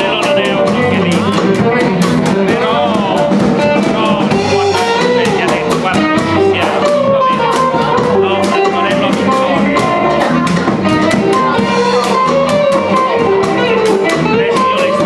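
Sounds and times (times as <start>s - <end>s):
bass guitar: 0.0s - 15.0s
blues band playing: 0.0s - 15.0s
drums keeping a steady beat: 0.0s - 15.0s
electric guitar: 0.0s - 15.0s.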